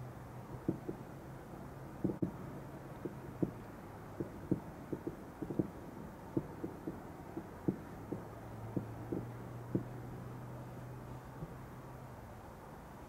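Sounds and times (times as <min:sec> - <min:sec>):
distant fireworks thumps: 0:00.0 - 0:11.8
faint steady hum: 0:00.0 - 0:13.0.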